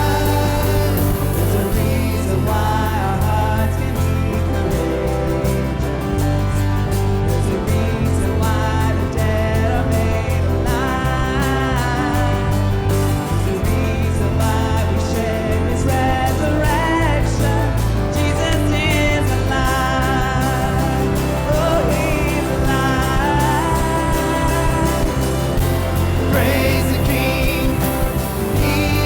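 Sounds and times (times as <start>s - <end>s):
bass and drum beat: 0.0s - 29.0s
person singing: 0.0s - 29.0s
worship band playing: 0.0s - 29.0s.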